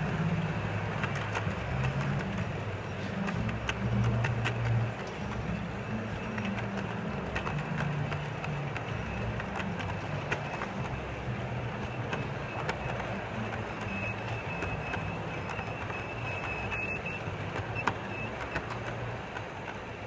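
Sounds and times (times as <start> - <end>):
clicks over rail joints: 0.0 - 20.0
model train wheels rumbling on rail: 0.0 - 20.0.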